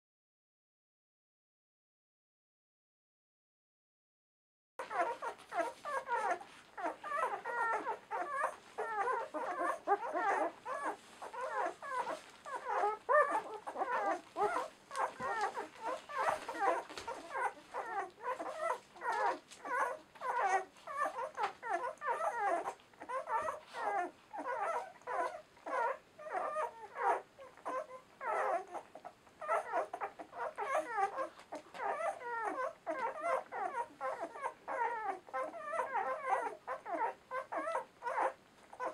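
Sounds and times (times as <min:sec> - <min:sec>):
puppies squeaking and whimpering: 0:04.8 - 0:38.9.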